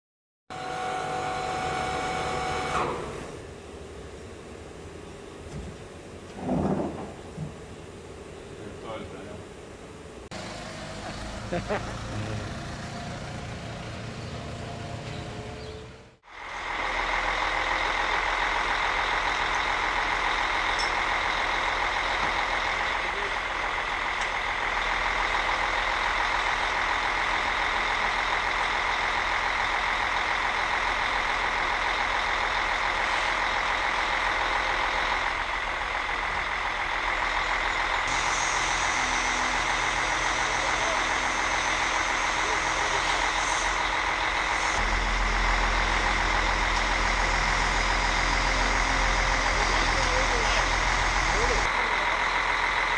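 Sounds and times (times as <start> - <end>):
crane high whine: 0.5 - 52.9
diesel engine running: 0.5 - 52.9.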